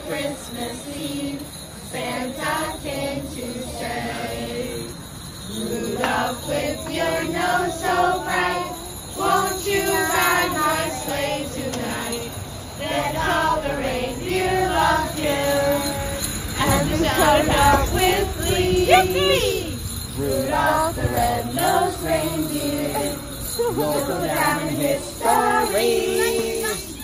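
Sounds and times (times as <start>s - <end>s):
children singing a carol: 0.0s - 27.0s.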